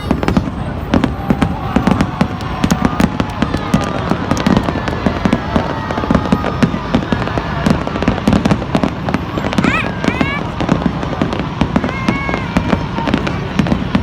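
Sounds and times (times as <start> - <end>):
firework whistles: 0.0 - 14.0
fireworks cracking and banging: 0.0 - 14.0.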